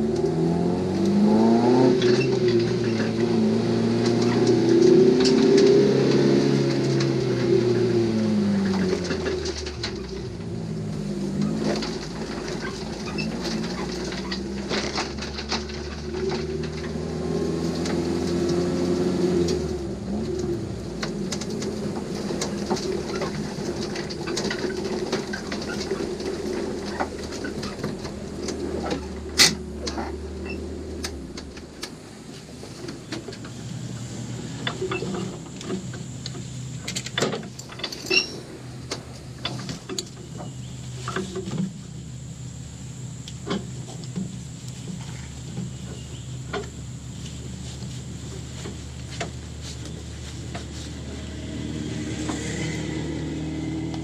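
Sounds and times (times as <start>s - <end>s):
race car engine from cabin: 0.0s - 54.0s.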